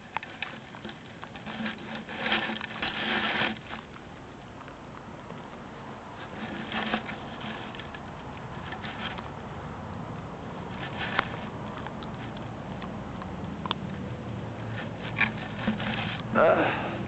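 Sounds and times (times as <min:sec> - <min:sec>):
dog crunching a chew: 0:00.0 - 0:16.3.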